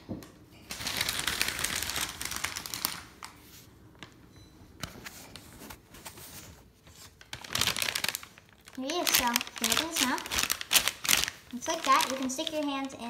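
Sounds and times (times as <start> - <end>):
paper bag rustling: 0.7 - 3.8, 5.1 - 13.0.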